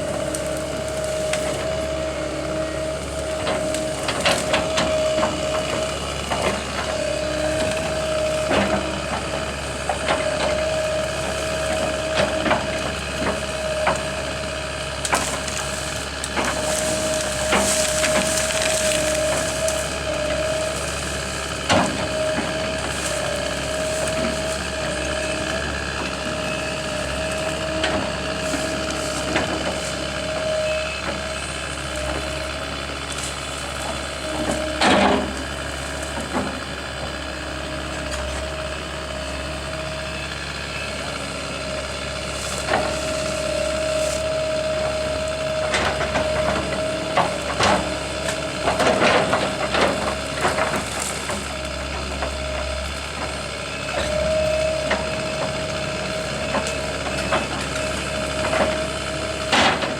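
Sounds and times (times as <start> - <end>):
steady humming machine: 0.0 - 59.9
wood cracking and splintering: 0.1 - 32.4, 42.0 - 59.9.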